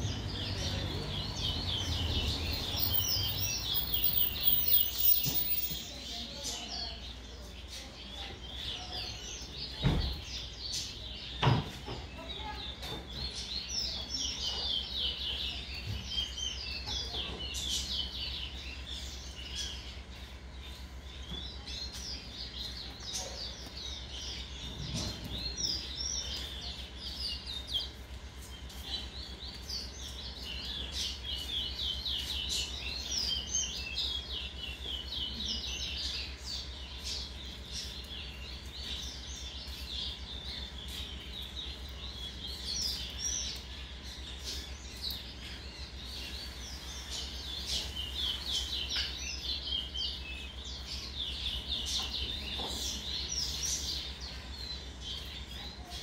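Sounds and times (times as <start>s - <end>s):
finches singing: 0.0s - 56.0s.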